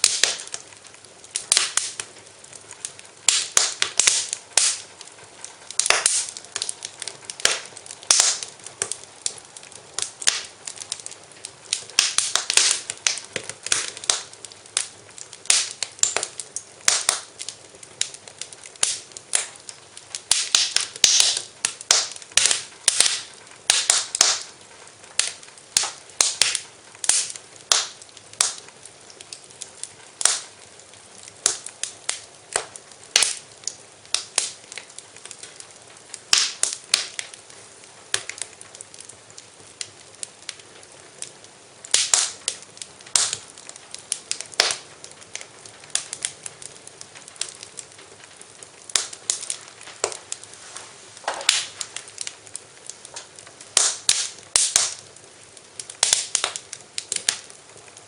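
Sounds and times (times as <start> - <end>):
faint hiss: 0.0 - 58.0
wood fire crackling and popping: 0.0 - 58.0.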